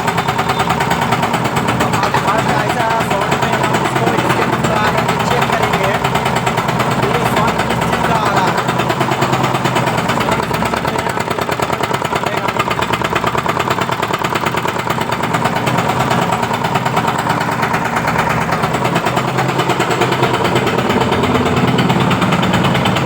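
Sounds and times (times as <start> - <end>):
engine running with rattling knock: 0.0 - 23.0.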